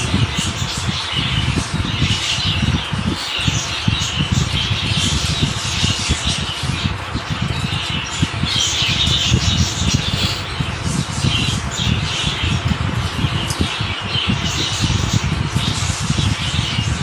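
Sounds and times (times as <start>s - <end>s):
budgerigars chattering and squawking: 0.0s - 17.0s.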